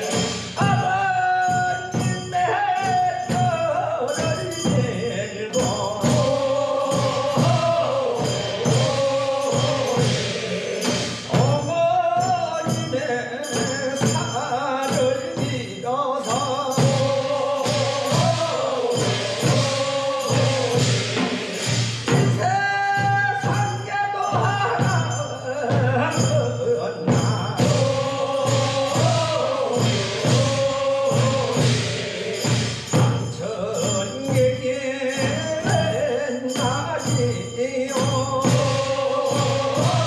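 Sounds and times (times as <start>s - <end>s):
men singing in a group: 0.0s - 40.0s
steady percussion beat: 0.0s - 40.0s.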